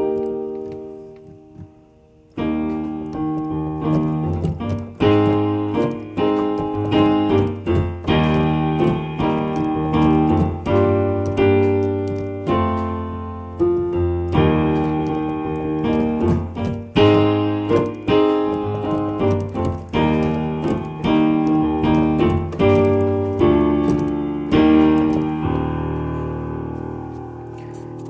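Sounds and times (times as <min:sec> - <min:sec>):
piano chords and melody: 0:00.0 - 0:28.0.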